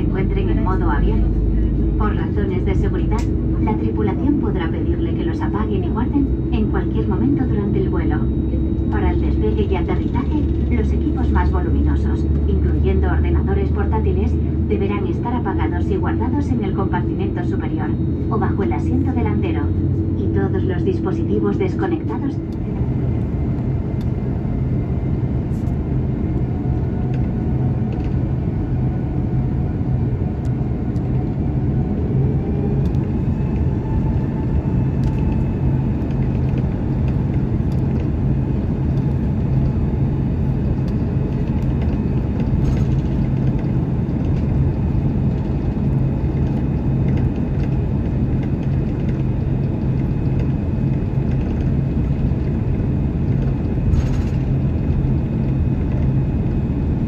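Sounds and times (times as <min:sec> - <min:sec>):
airplane cabin rumble: 0:00.0 - 0:57.0
faint engine whine: 0:00.0 - 0:57.0.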